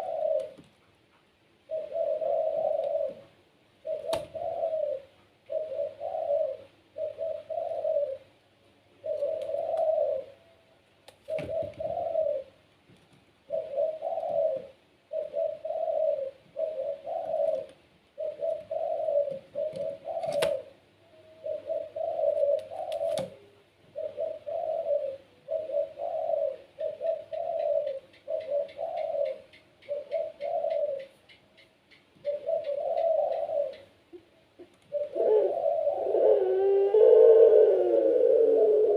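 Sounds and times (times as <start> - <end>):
dove cooing: 0.0 - 0.8, 1.6 - 12.7, 13.4 - 38.9.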